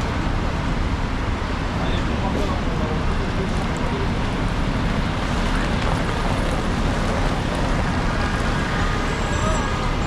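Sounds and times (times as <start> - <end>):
traffic on wet roads: 0.0 - 10.0.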